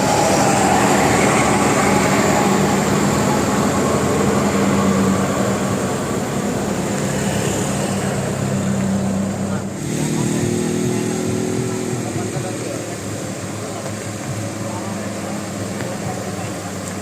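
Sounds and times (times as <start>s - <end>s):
large vehicle engine running: 0.0s - 17.0s
road traffic noise: 0.0s - 17.0s.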